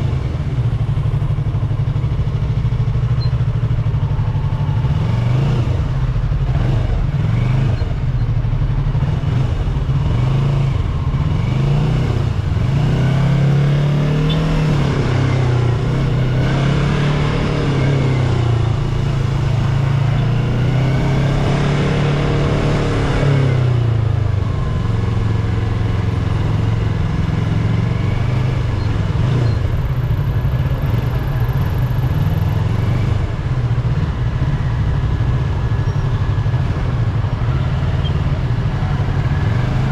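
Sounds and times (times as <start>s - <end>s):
motorcycle engine revving: 0.0s - 39.9s
other vehicle engines: 0.0s - 39.9s.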